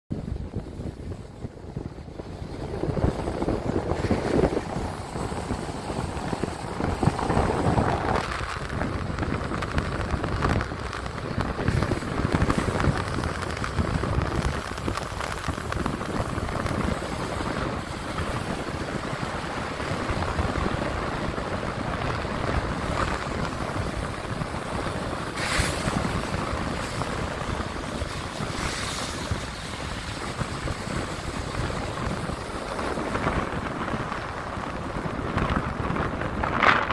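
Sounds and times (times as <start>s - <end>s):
wind buffeting microphone: 0.1s - 36.9s
tyres hissing on wet road: 3.1s - 36.9s.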